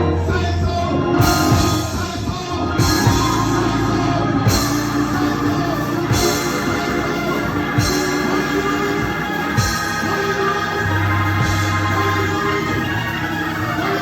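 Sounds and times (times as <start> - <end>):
live gospel band music: 0.0 - 14.0.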